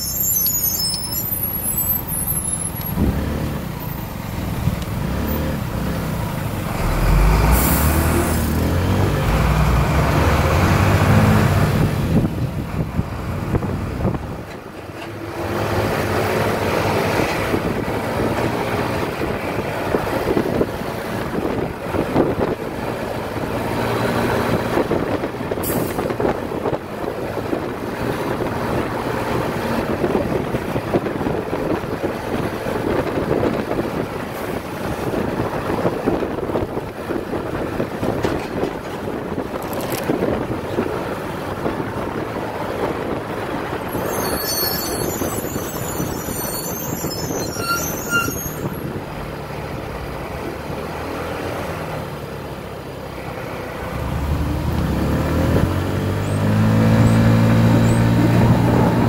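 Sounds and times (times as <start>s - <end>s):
motorcycle and truck engines running: 0.9s - 47.3s, 48.6s - 59.0s.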